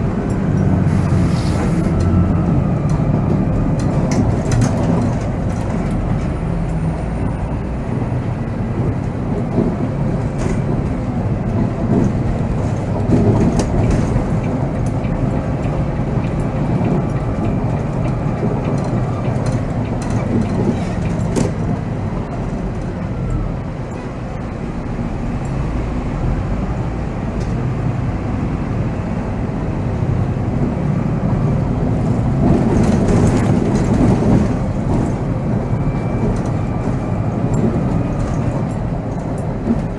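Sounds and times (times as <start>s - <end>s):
diesel engine rumbling: 0.0s - 39.9s
road noise: 0.0s - 39.9s.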